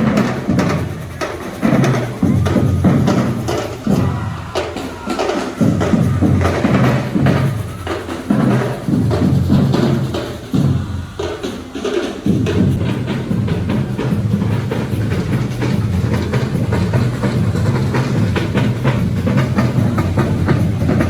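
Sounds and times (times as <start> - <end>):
music with drums and bass beat: 0.0 - 21.0.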